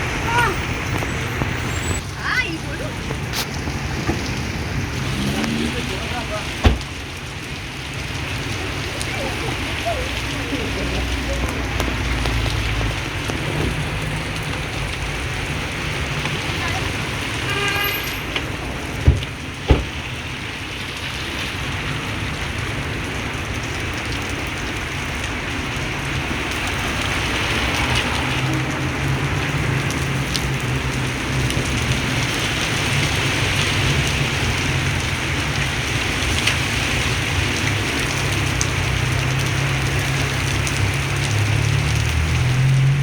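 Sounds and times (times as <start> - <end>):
heavy rain pouring: 0.0 - 43.0.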